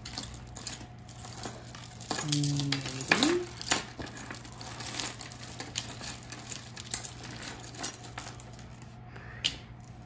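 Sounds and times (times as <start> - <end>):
metal jewelry clinking: 0.0 - 10.0.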